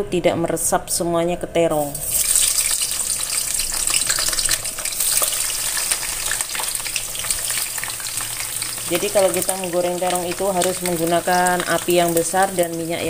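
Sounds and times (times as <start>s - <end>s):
eggplant sizzling in hot oil: 1.8s - 13.0s.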